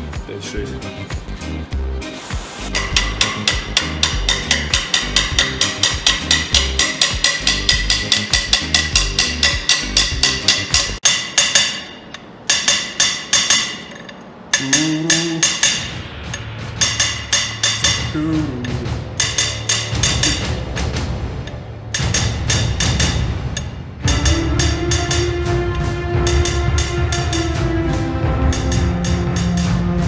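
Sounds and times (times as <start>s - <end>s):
music with clicking percussive beat: 0.0s - 11.2s, 14.6s - 30.0s.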